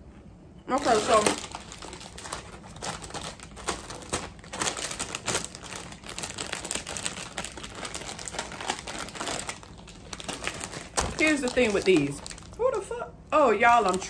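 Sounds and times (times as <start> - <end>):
foil chip bag crinkling: 0.7 - 14.0.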